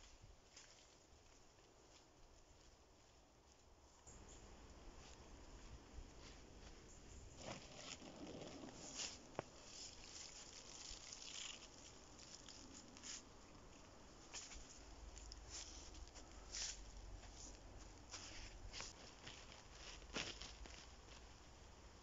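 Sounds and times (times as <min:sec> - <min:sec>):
rustling of pine needles and moss: 0:00.0 - 0:22.0.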